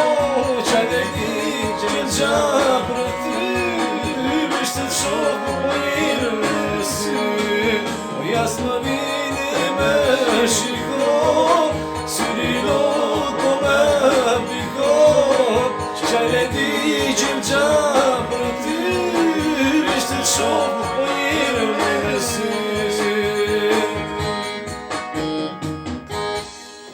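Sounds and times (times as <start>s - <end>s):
person singing: 0.0s - 25.0s
instrumental music with beat: 0.0s - 26.9s.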